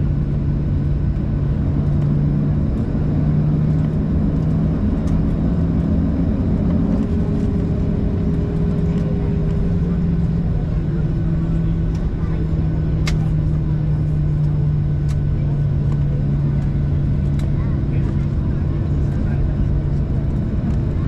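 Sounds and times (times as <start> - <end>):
low hum in aircraft cabin: 0.0 - 21.0.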